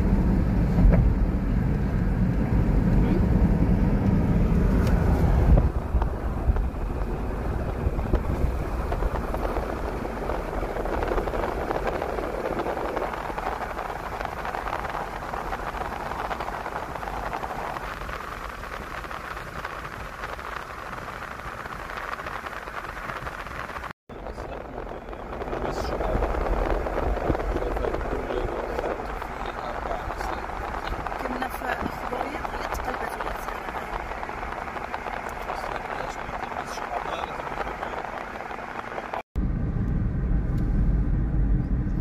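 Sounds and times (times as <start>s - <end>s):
car road and wind noise: 0.0s - 42.0s
deep rumble: 0.0s - 42.0s.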